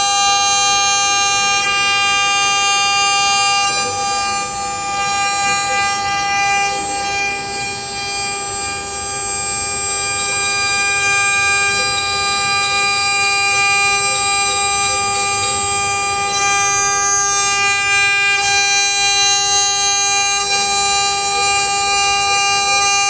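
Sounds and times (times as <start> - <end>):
router spindle whine: 0.0 - 23.0
hiss of cutting wood: 2.3 - 23.0.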